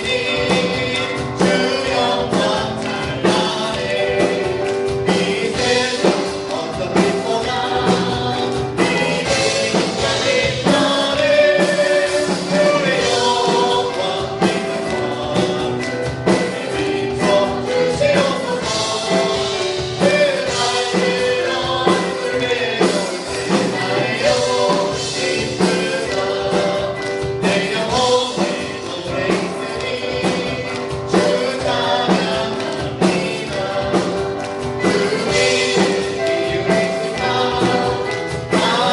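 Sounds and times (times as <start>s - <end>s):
band with steady beat: 0.0s - 38.9s
group singing praise song: 0.0s - 38.9s.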